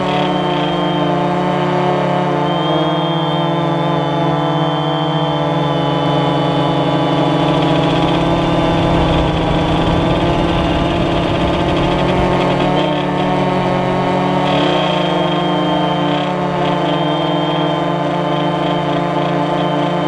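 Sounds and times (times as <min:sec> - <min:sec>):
drone motors and propellers humming: 0:00.0 - 0:20.0.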